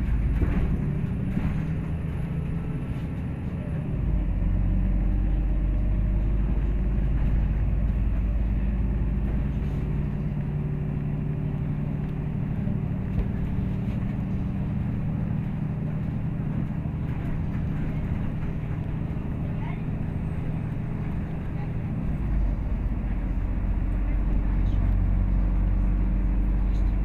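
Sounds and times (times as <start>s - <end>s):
bus engine drone: 0.0s - 27.0s
tyre and road rumble: 0.0s - 27.0s.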